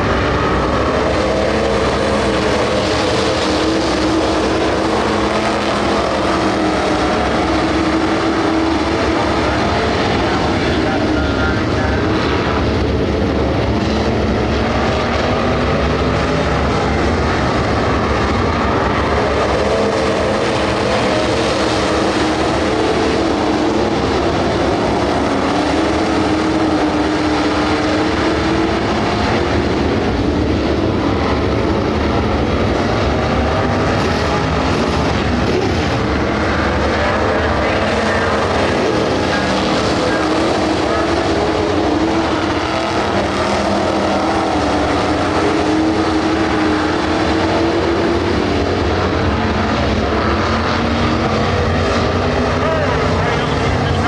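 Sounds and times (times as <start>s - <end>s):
race car engines passing: 0.0s - 54.0s.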